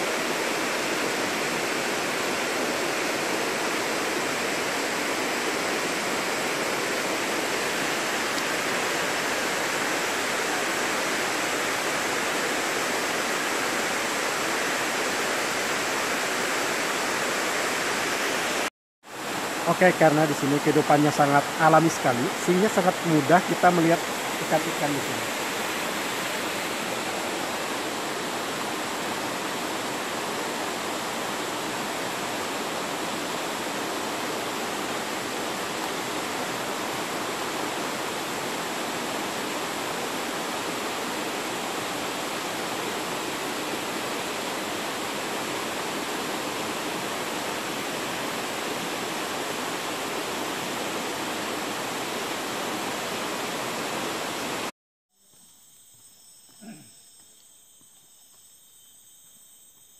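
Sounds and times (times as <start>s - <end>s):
waterfall rushing: 0.0s - 54.7s.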